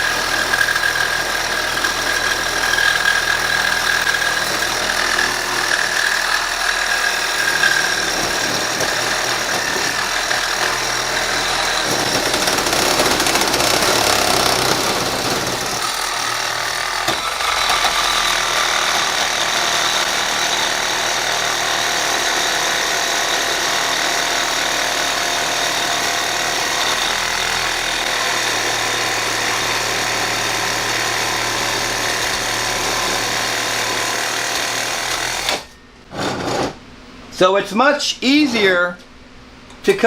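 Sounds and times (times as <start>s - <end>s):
reciprocating saw cutting metal: 0.0s - 36.8s.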